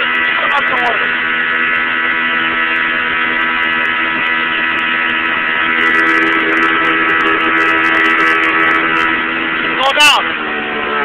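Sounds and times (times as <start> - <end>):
boat engine running: 0.0 - 11.0
rush of wind and water: 0.0 - 11.0.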